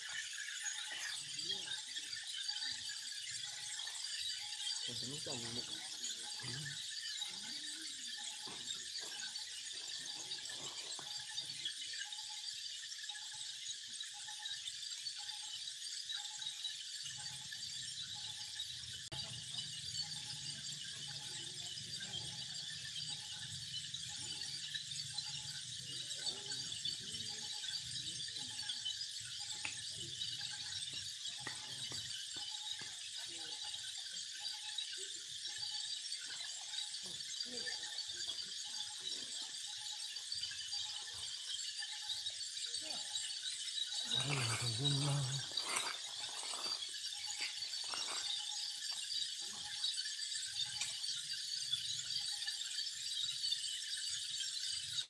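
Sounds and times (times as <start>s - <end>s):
insects buzzing chorus: 0.0s - 55.0s.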